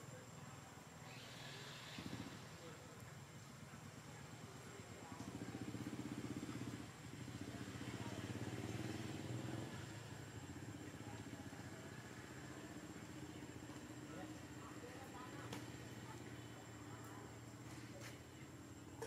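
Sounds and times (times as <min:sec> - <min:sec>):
vehicle engine running: 0:01.2 - 0:19.0.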